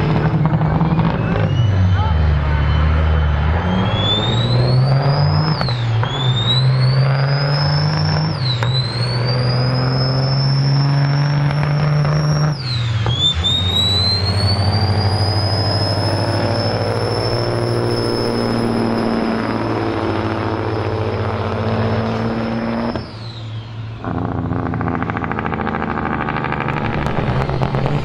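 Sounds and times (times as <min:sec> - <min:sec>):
diesel truck accelerating: 0:00.0 - 0:28.0
turbo whistle: 0:00.1 - 0:19.7, 0:22.1 - 0:25.0, 0:26.8 - 0:28.0.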